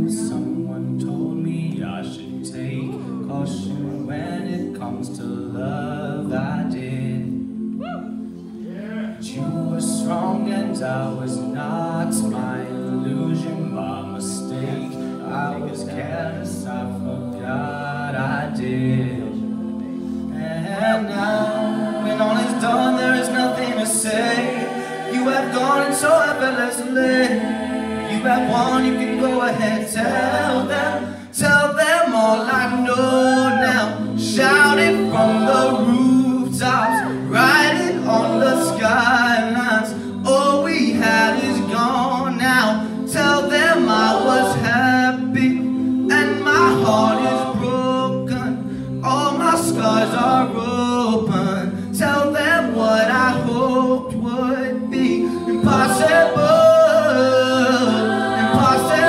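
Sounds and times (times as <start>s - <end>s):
backing vocal harmonies: 0.0s - 59.0s.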